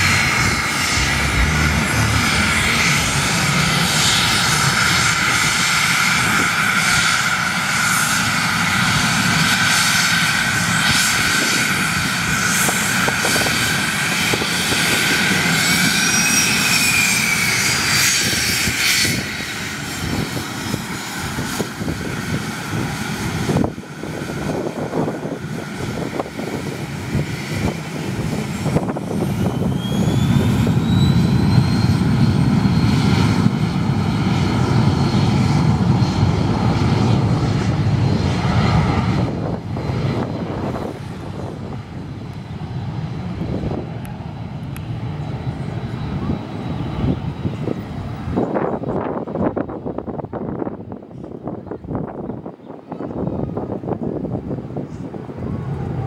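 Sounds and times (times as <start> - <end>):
jet rumble: 0.0 - 56.0
jet turbine whine: 0.0 - 56.0.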